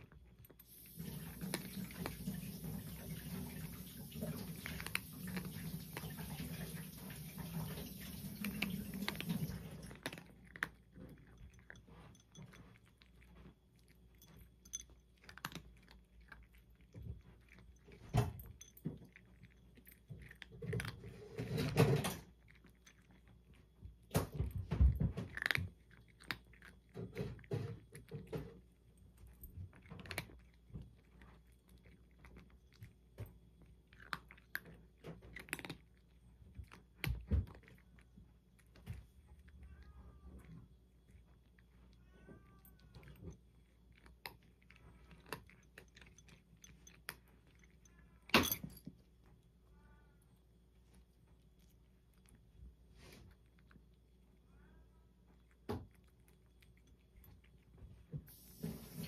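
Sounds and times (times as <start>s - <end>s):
cat chewing food: 0.0s - 59.0s
cat crunching food: 0.0s - 59.0s.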